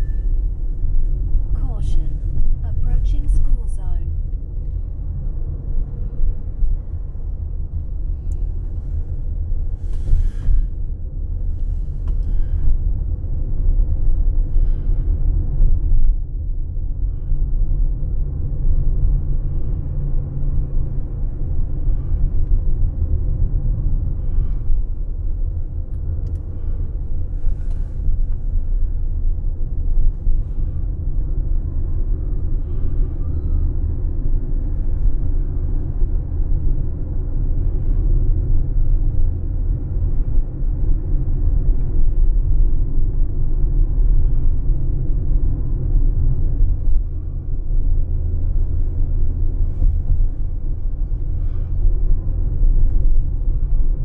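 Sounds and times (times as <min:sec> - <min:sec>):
car engine: 0:00.0 - 0:54.0.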